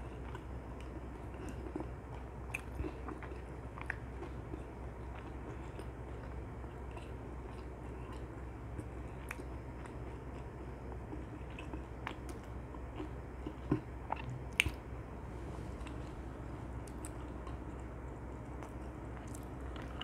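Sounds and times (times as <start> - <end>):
chewing fried chicken: 0.0 - 20.0.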